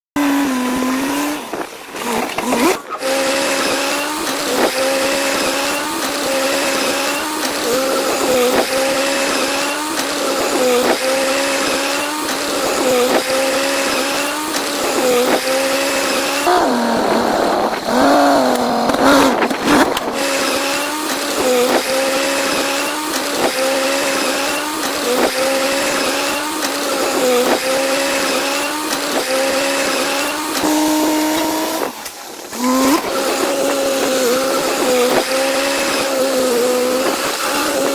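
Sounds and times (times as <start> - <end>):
excavator motor whine: 0.2 - 37.9.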